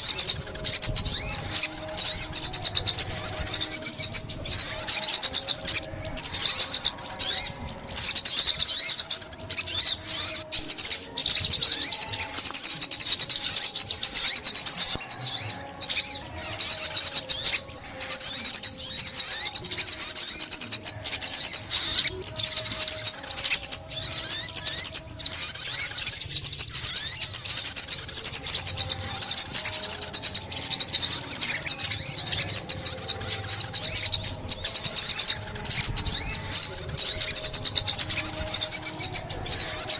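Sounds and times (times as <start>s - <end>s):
sunbird twittering chirps: 0.0s - 39.9s.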